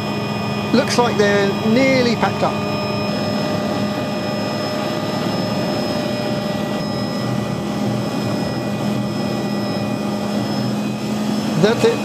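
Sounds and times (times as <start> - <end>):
helicopter turbine and rotor: 0.0 - 12.0.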